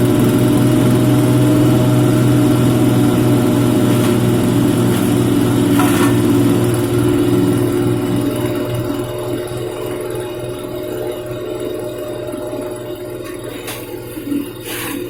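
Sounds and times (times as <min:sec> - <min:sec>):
grass chopper engine running: 0:00.0 - 0:15.0.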